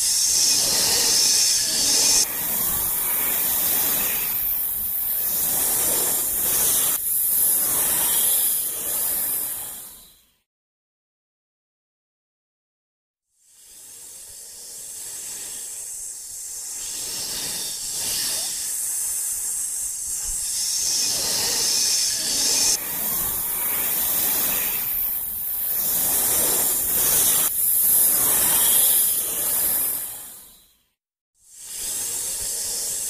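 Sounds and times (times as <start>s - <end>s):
loud steady hissing: 0.0s - 9.4s, 13.6s - 30.1s, 31.6s - 33.0s.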